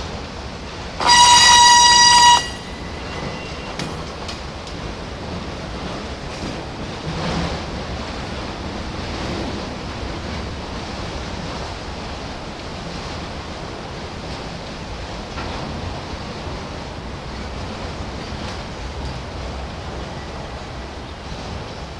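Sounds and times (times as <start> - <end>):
freight train rolling past: 0.0 - 21.9.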